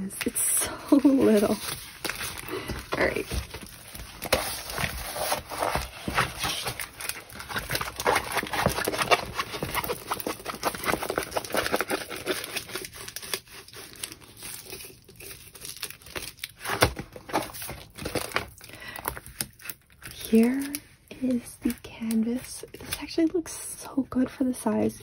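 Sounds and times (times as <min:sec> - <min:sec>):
plastic packaging crinkling: 0:00.0 - 0:23.5.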